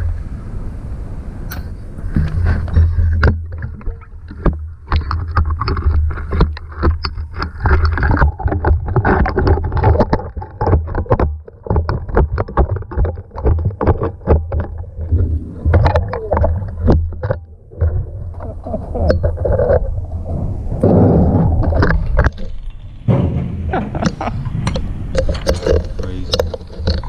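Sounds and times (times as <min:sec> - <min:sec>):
steady low rumble: 0:00.0 - 0:11.8, 0:14.1 - 0:27.0
water sloshing: 0:02.0 - 0:27.0.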